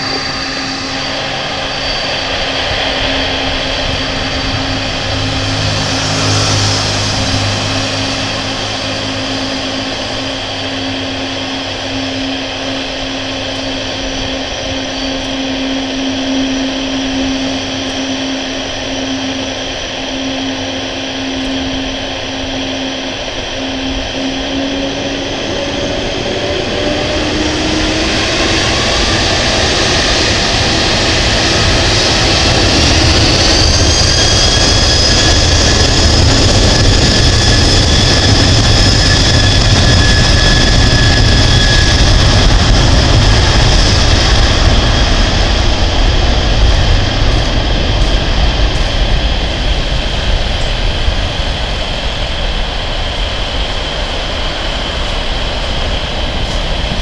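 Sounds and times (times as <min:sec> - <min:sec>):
jet engine whine: 0:00.0 - 0:57.0
rushing rumble: 0:00.0 - 0:57.0.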